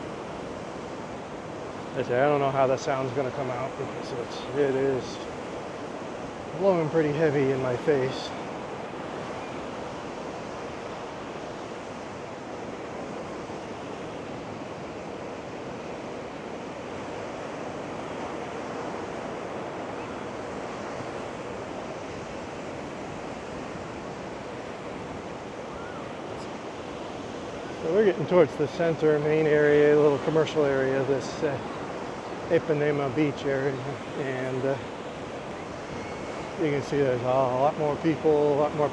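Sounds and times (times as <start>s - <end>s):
ocean surf on a beach: 0.0s - 38.9s
wind blowing across microphone: 0.0s - 38.9s.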